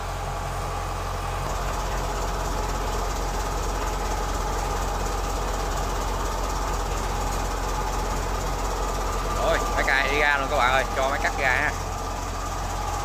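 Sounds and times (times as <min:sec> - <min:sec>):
diesel tractor engine idling: 0:00.0 - 0:13.0.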